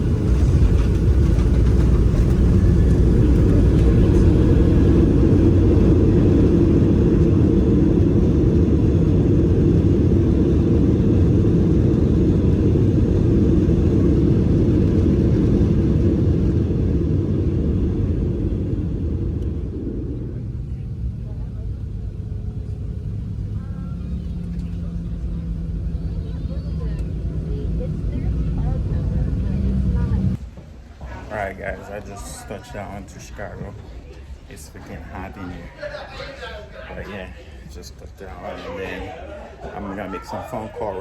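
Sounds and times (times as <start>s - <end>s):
jet airliner cabin rumble: 0.0s - 41.0s.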